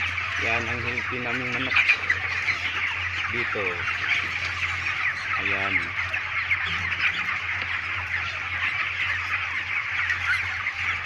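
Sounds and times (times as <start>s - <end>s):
chickens cheeping: 0.0s - 11.0s.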